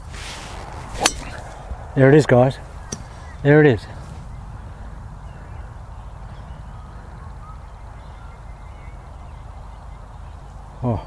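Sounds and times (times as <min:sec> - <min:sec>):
low outdoor rumble: 0:00.0 - 0:10.8.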